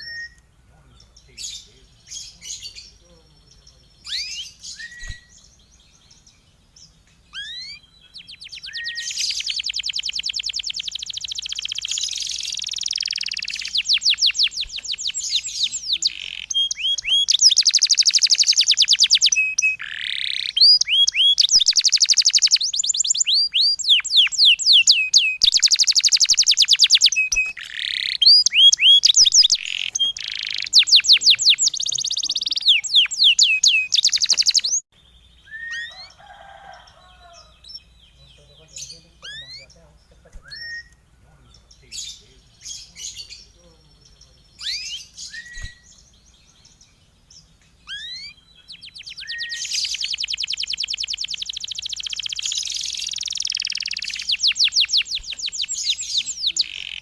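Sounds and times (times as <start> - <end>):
songbird fast trilling song: 0.0 - 36.1, 37.6 - 57.0.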